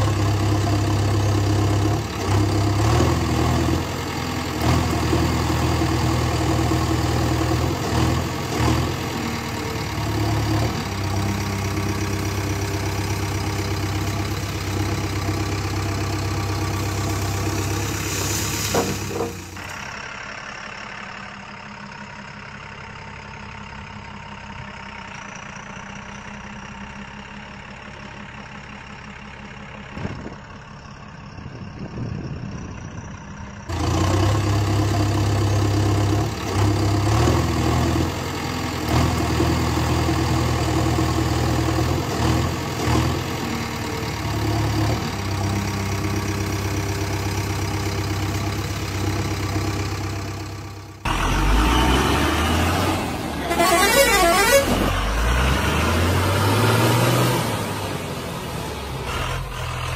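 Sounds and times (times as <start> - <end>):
heavy vehicle engine idling: 0.0 - 56.6, 57.4 - 59.9
loud engine running: 0.0 - 59.9.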